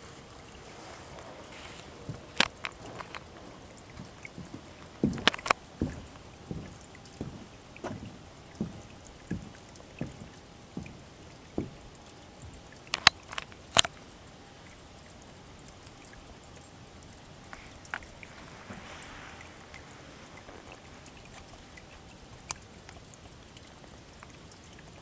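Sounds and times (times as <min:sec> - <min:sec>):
creek flowing faintly: 0:00.0 - 0:25.0.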